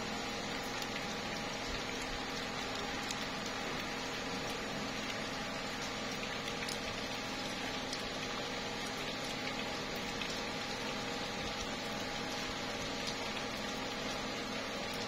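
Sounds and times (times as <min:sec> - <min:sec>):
light rain on leaves: 0:00.0 - 0:15.0
water drips tapping: 0:00.4 - 0:15.0.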